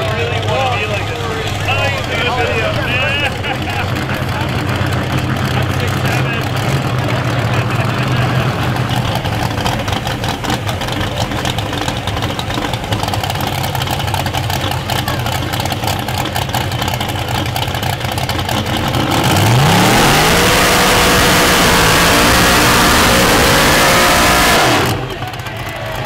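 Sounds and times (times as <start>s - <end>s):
tires spinning: 0.0s - 26.0s
truck engine revving: 0.0s - 26.0s.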